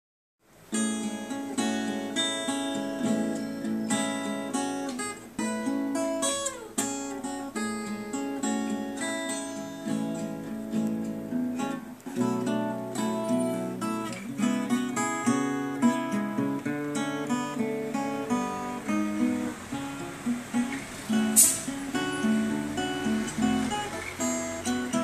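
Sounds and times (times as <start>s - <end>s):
acoustic guitar playing: 0.5s - 25.0s.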